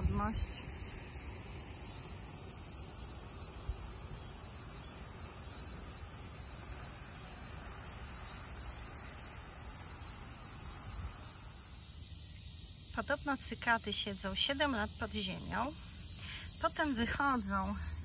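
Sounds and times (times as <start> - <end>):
insects buzzing trill: 0.0 - 18.0.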